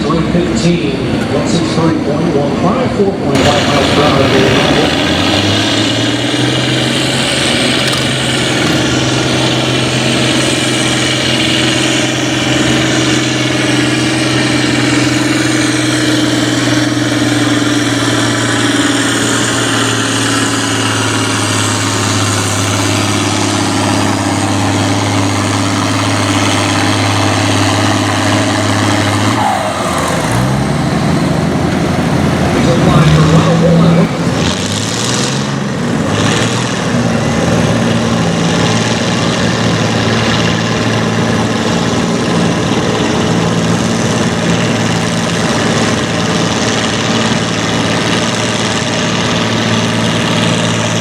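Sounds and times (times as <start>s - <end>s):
tractor engine under load: 0.0s - 51.0s.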